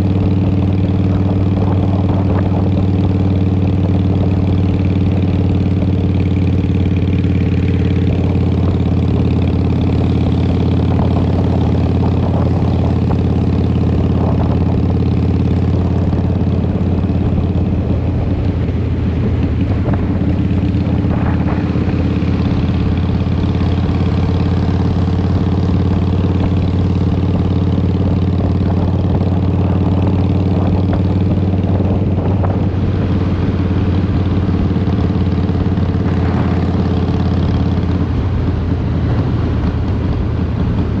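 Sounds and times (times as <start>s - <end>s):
motorcycle engine running steadily: 0.0s - 41.0s.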